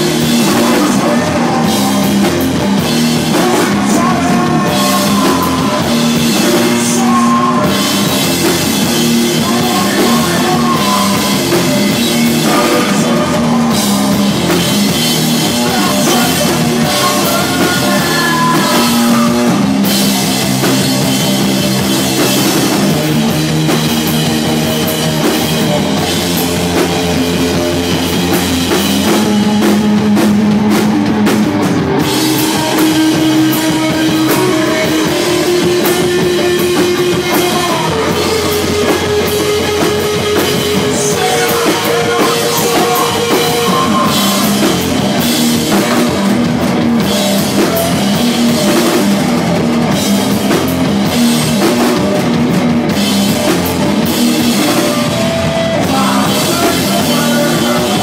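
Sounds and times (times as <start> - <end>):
bass holding long notes: 0.0 - 58.0
distorted guitars: 0.0 - 58.0
drum kit pounding: 0.0 - 58.0.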